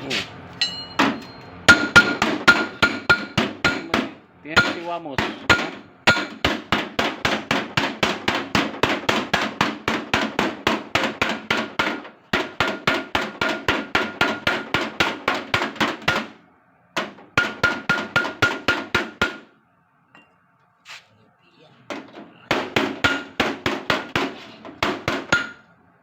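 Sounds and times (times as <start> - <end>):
hammer beating sheet metal: 0.6 - 16.4, 17.0 - 19.5, 22.4 - 25.7.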